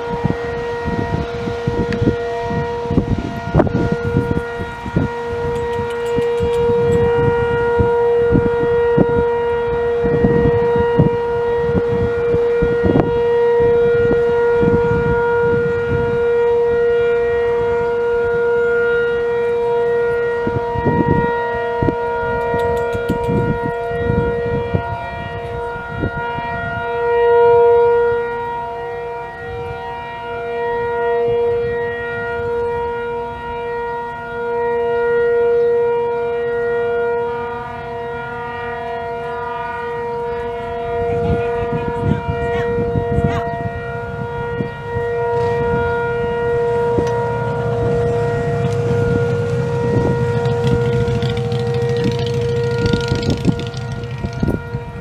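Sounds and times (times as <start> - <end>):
warning siren steady tone: 0.0 - 55.0
wind rumbling on microphone: 0.0 - 55.0.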